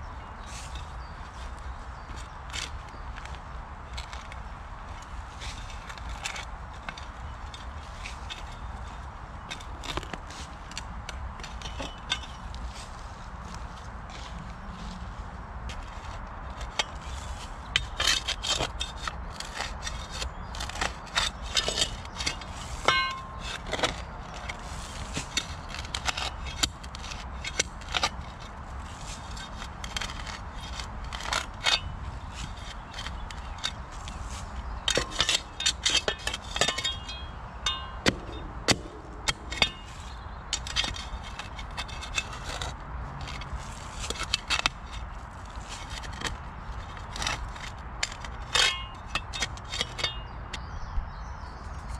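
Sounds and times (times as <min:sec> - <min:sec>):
metal shovel scraping soil and stones: 0:05.0 - 0:50.3.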